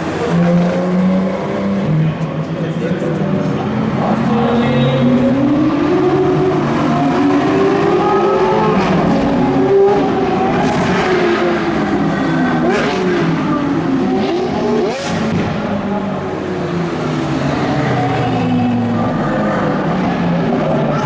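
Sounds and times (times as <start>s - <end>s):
sports car engines accelerating: 0.0s - 21.0s.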